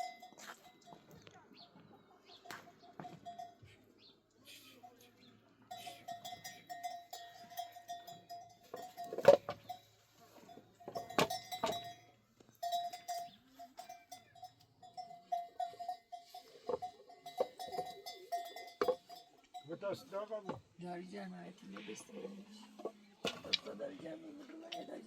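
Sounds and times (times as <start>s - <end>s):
livestock bells clanking: 0.0s - 25.0s.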